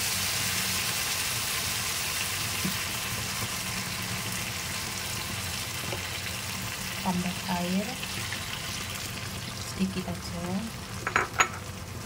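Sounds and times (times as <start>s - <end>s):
curry sizzling in a wok: 0.0s - 12.0s.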